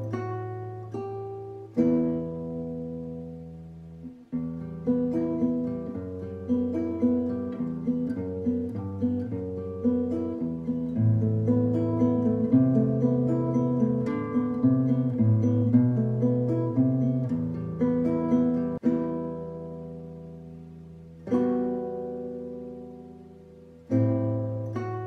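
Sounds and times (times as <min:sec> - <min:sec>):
classical guitar music: 0:00.0 - 0:25.0.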